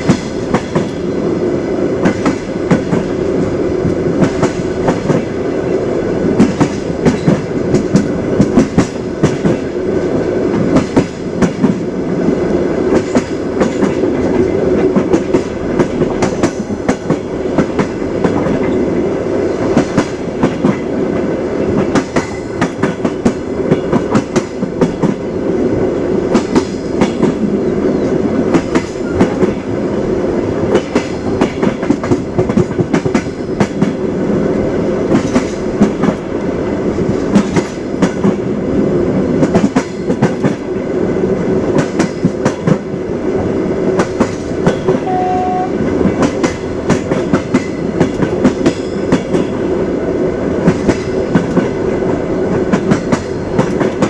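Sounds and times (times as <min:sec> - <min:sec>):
train wheels clattering: 0:00.0 - 0:01.2, 0:02.0 - 0:09.8, 0:10.5 - 0:11.9, 0:12.8 - 0:25.3, 0:26.2 - 0:29.8, 0:30.6 - 0:34.1, 0:35.0 - 0:38.6, 0:39.4 - 0:40.9, 0:41.6 - 0:43.0, 0:44.0 - 0:49.7, 0:50.6 - 0:54.0
train rumble: 0:00.0 - 0:54.0.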